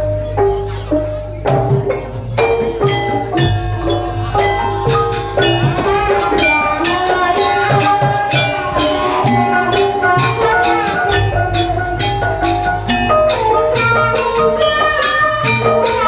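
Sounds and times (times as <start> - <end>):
drums: 0.0 - 16.0
gamelan music: 0.0 - 16.0
gong: 0.0 - 16.0.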